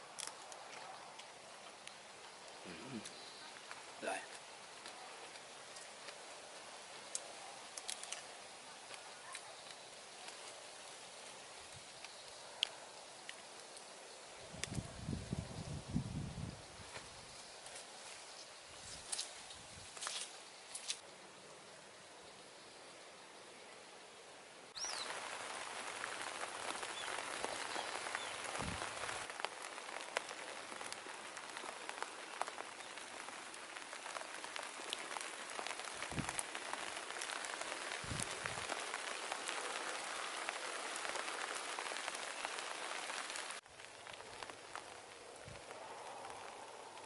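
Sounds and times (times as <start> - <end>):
rain pattering: 0.0 - 20.2, 24.7 - 47.0.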